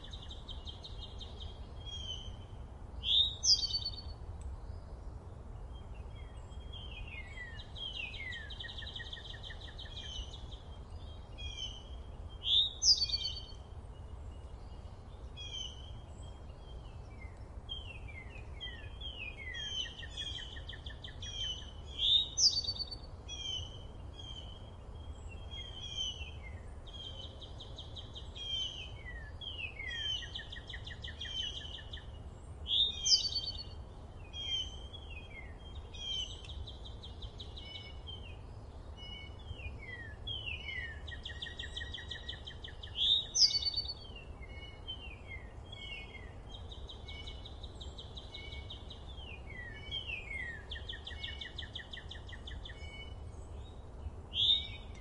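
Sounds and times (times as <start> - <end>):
songbirds singing and calling: 0.0 - 55.0.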